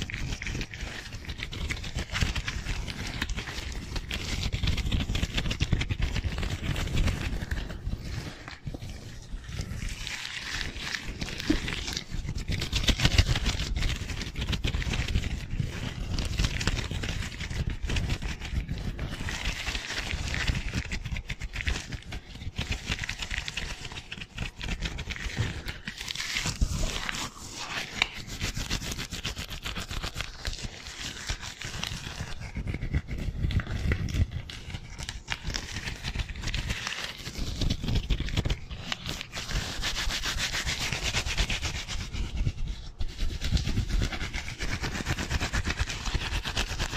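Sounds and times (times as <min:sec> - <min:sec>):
disposable gloves crinkling: 0:00.0 - 0:46.9.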